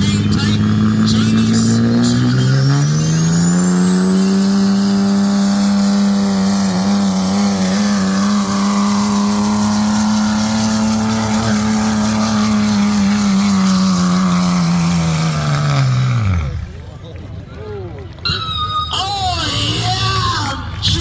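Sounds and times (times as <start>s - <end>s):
diesel engine at high revs: 0.0s - 17.3s.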